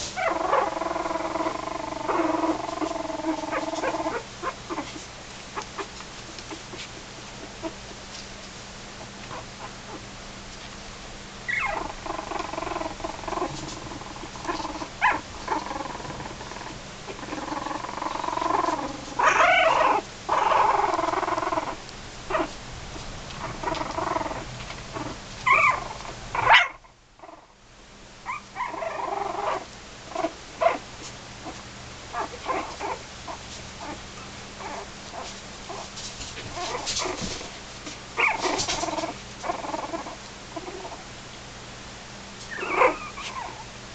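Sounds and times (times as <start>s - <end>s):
puppies whining and squeaking: 0.1s - 7.9s, 11.5s - 22.6s, 23.3s - 27.5s, 28.2s - 30.8s, 31.4s - 37.4s, 38.2s - 41.1s, 42.4s - 43.7s.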